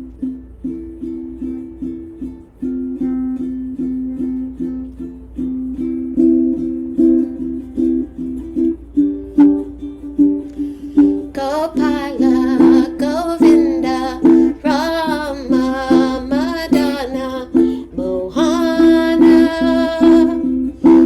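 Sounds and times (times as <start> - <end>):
plucked string instrument strumming: 0.0 - 21.0.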